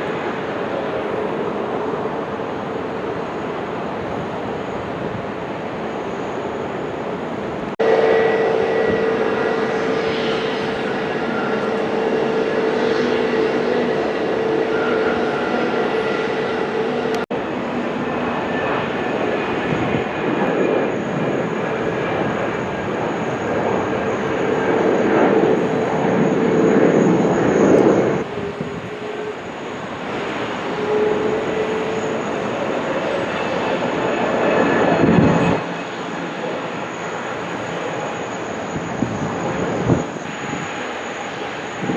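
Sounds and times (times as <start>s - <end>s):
jet engines rumbling and whining: 0.0s - 41.9s.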